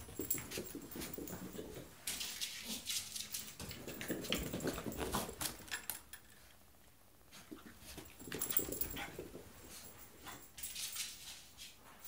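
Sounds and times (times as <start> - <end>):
puppy paws scuffing and clicking: 0.0 - 6.5, 7.4 - 12.0.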